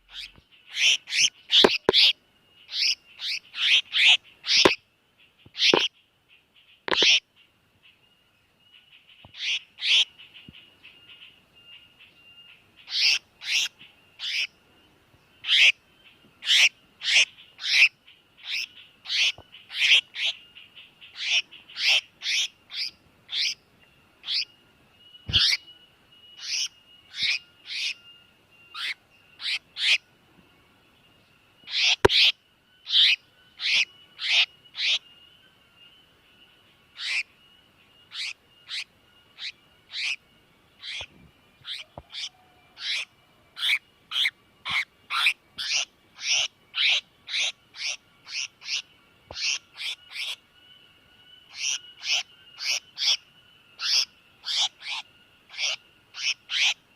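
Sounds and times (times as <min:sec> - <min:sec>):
bird distress call: 0:00.0 - 0:56.9
faint high whine: 0:00.0 - 0:56.9.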